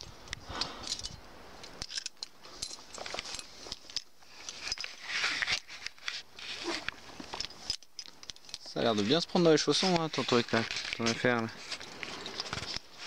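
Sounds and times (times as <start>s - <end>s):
rustling: 0.0s - 13.0s
climbing hardware clinking: 0.6s - 13.0s.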